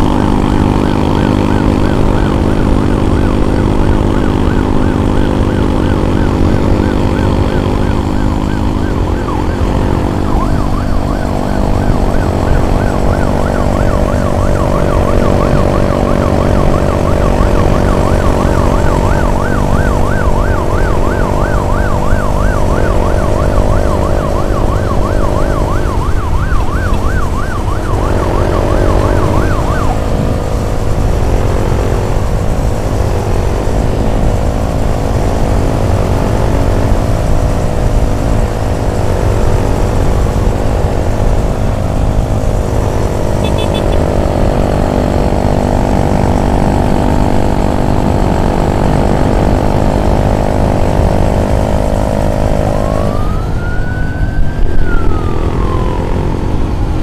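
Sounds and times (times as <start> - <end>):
emergency siren yelping: 0.0 - 57.0
engine drone: 0.0 - 57.0.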